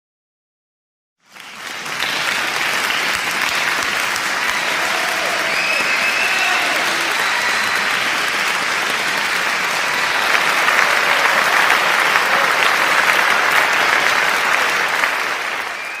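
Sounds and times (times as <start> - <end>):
crowd applauding: 1.2 - 16.0.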